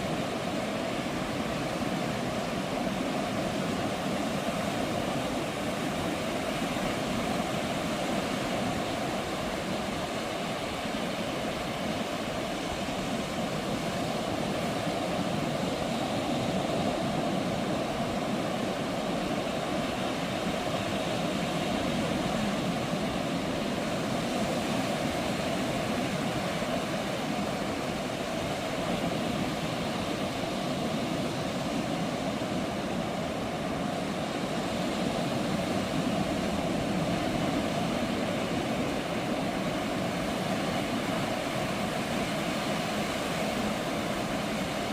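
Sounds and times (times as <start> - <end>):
ocean waves breaking: 0.0 - 44.9.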